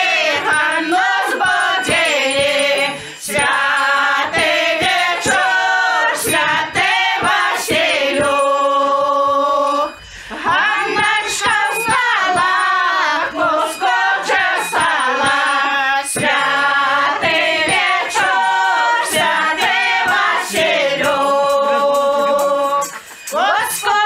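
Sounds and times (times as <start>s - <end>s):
women singing in harmony: 0.0s - 24.0s.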